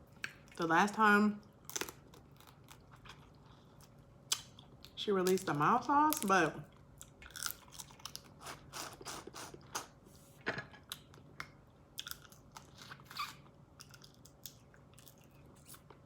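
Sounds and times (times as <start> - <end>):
chewing and eating: 1.4 - 10.0, 10.8 - 16.0.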